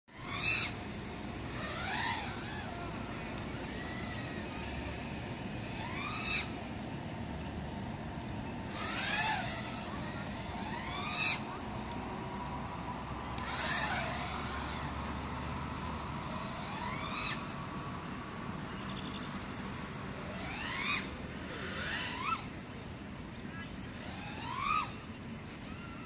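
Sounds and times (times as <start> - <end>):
drone motors whining: 0.1 - 26.0
low background noise: 0.1 - 26.0.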